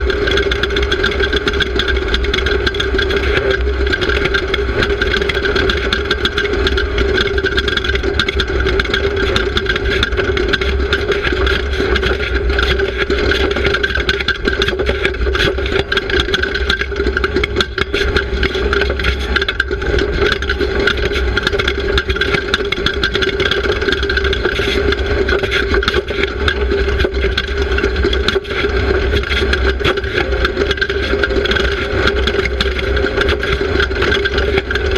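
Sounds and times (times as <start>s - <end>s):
race car engine running: 0.0s - 34.9s
rattles and knocks: 0.0s - 34.9s.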